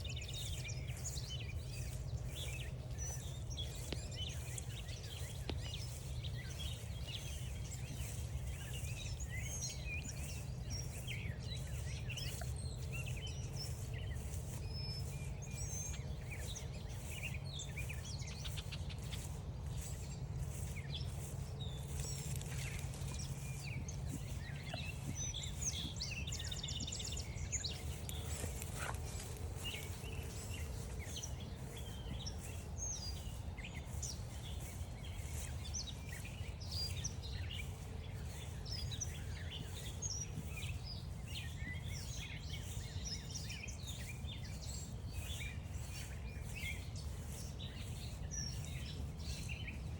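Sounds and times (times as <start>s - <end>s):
birds singing and chirping: 0.0s - 49.9s
footsteps on trail: 0.0s - 49.9s.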